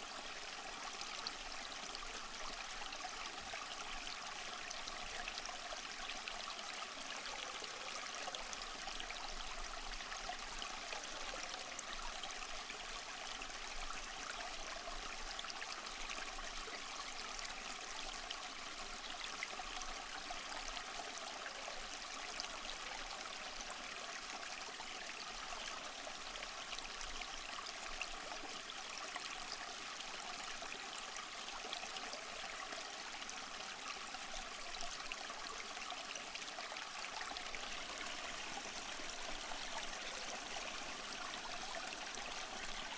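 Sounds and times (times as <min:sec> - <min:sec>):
small stream babbling over stones: 0:00.0 - 0:42.9.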